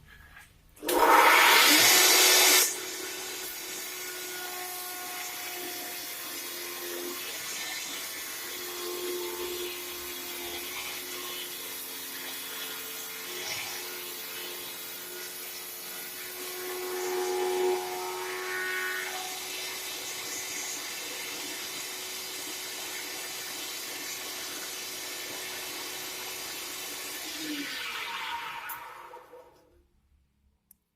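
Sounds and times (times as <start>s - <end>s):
electric motor humming: 0.9s - 27.7s.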